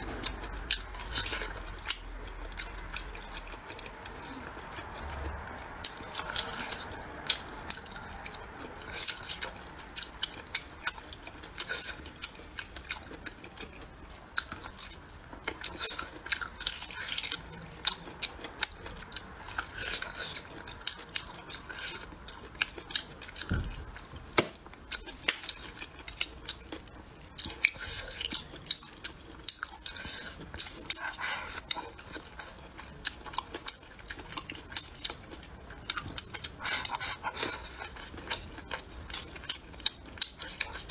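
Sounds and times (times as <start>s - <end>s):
chewing and lip-smacking: 0.0s - 23.8s, 24.6s - 40.9s.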